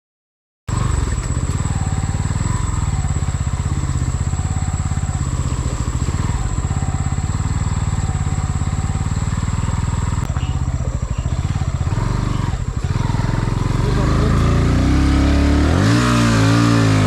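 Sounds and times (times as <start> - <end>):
vehicle engine running: 0.7 - 17.0.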